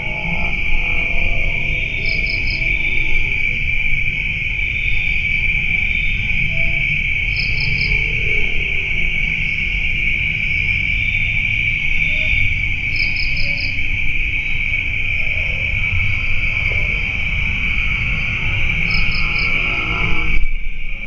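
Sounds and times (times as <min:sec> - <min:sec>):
cricket trill: 0:00.0 - 0:21.0
high pulsing insect chirp: 0:00.0 - 0:21.0.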